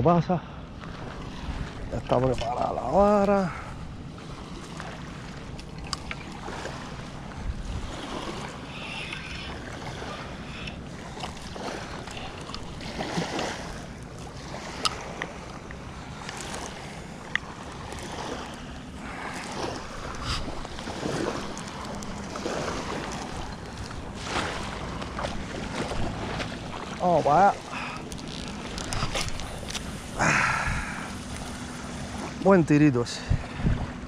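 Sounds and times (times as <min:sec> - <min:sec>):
small waves lapping shoreline: 0:00.0 - 0:34.0
wind buffeting microphone: 0:00.7 - 0:34.0.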